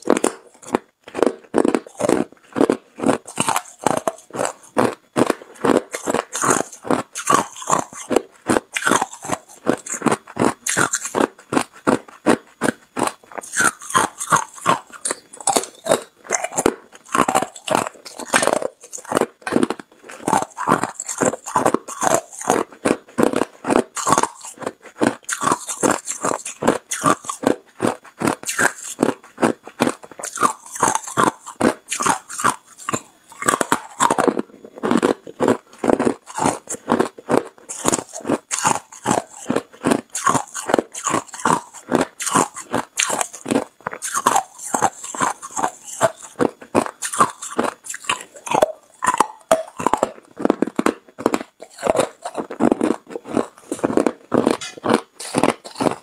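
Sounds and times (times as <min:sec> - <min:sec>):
ice cubes crunched between teeth: 0:00.0 - 0:56.0.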